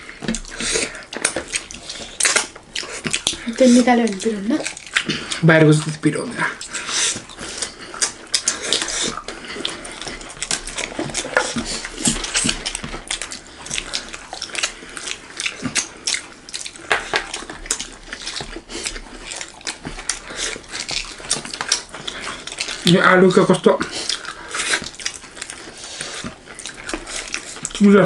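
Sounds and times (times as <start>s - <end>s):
people chewing and lip smacking: 0.0s - 28.0s.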